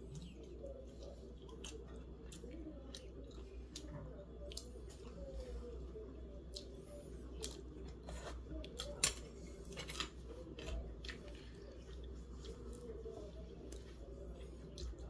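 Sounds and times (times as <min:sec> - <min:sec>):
chewing: 0:00.0 - 0:15.0
low steady hum: 0:00.0 - 0:15.0.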